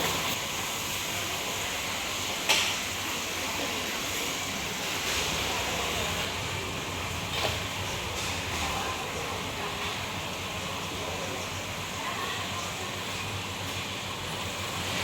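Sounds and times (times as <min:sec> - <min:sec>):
food court background rush: 0:00.0 - 0:15.0.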